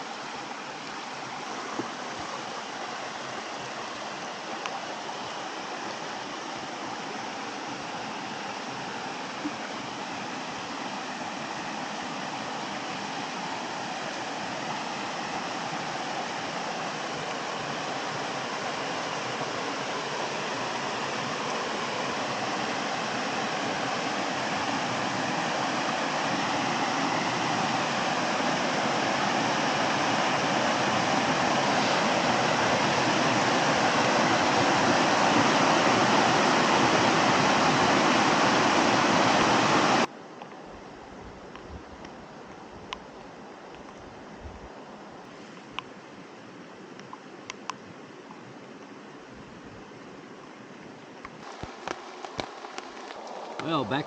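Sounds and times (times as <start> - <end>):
water rushing over rocks: 0.0 - 40.4, 50.9 - 54.0.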